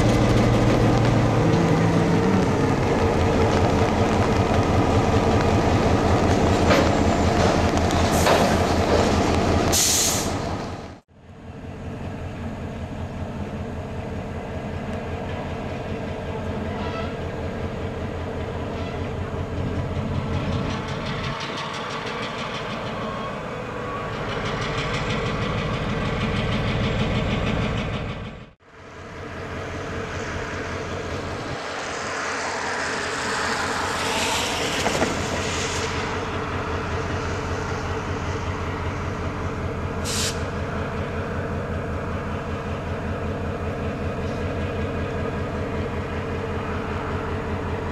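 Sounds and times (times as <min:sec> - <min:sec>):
diesel locomotive engine running: 0:00.0 - 0:47.9.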